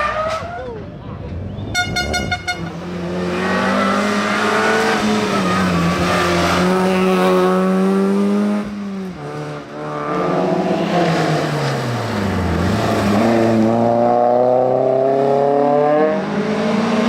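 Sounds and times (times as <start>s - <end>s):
race car engine at high revs: 2.6s - 17.0s.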